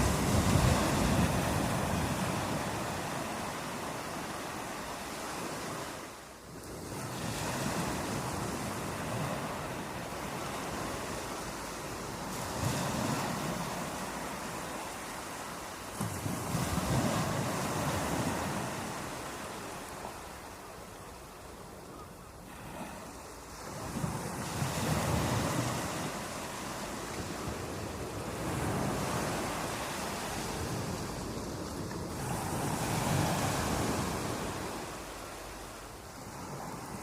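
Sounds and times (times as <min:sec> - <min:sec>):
sea waves breaking ashore: 0:00.0 - 0:37.0.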